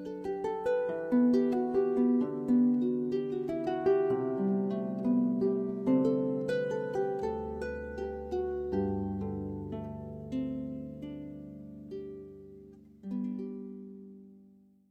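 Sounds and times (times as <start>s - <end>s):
harp playing slow melody: 0.0s - 14.7s.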